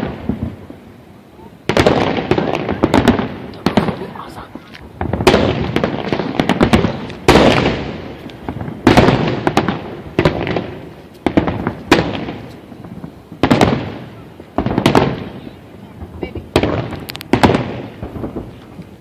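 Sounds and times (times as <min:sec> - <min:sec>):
fireworks bangs with rumble: 0:00.0 - 0:00.8, 0:01.6 - 0:19.0
crackling pops: 0:01.7 - 0:15.4, 0:16.1 - 0:19.0.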